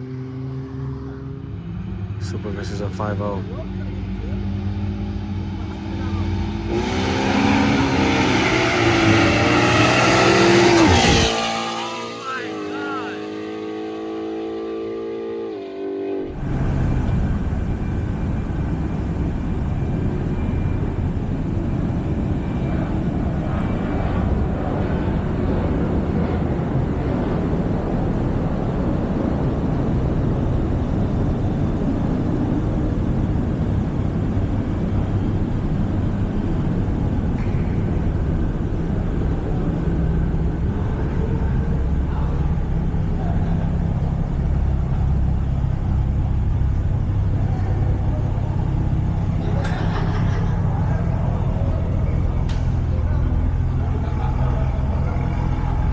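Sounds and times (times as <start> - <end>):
car road and wind noise: 0.0 - 55.9.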